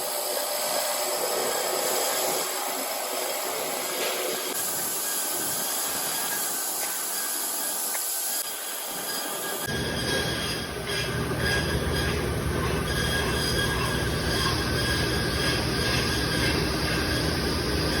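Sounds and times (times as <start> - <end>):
high-pitched metallic squealing: 0.0 - 18.0
milling machine cutting metal: 0.0 - 18.0.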